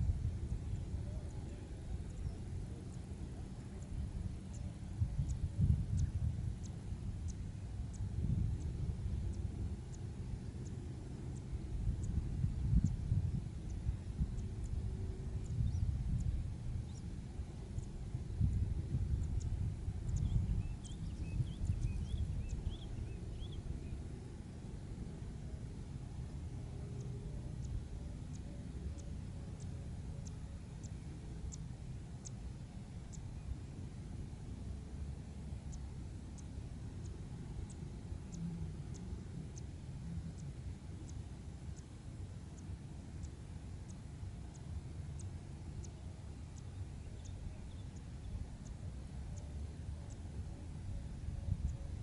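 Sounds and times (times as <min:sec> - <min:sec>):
steady low rumble: 0:00.0 - 0:52.0.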